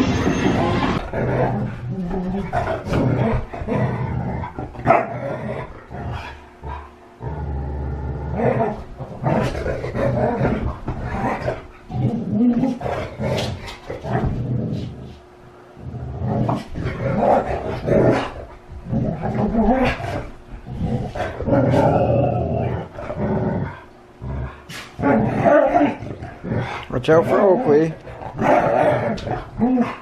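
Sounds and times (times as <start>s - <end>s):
dogs growling and vocalizing: 0.0s - 15.2s, 15.8s - 30.0s.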